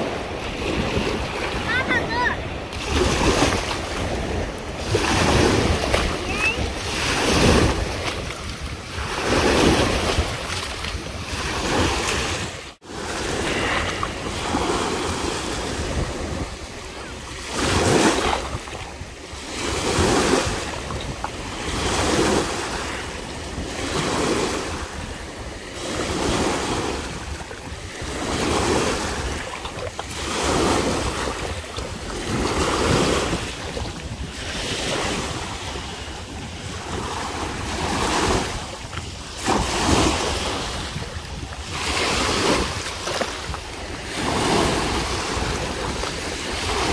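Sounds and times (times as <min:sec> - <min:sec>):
small waves breaking on sandy shore: 0:00.0 - 0:46.9
wind buffeting microphone: 0:00.0 - 0:46.9.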